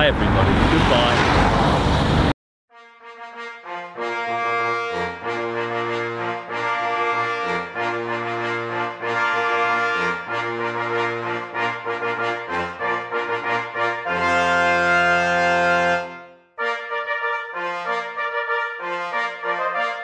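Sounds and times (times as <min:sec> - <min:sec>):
brass fanfare chords: 0:02.7 - 0:20.0.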